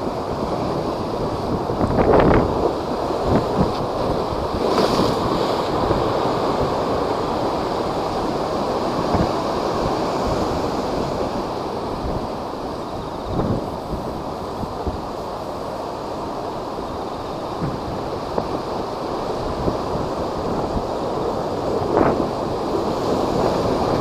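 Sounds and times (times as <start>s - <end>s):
storm waves crashing: 0.0s - 24.0s
wind buffeting microphone: 0.0s - 24.0s.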